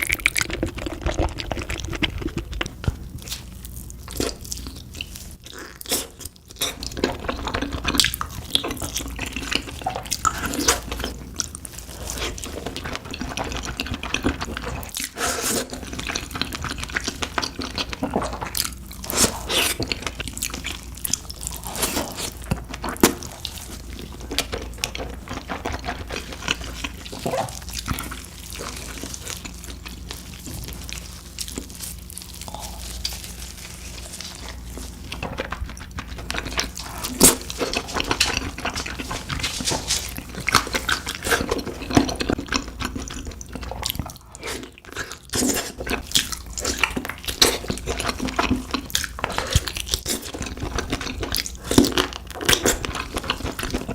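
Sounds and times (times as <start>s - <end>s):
person chewing meat: 0.0s - 53.9s.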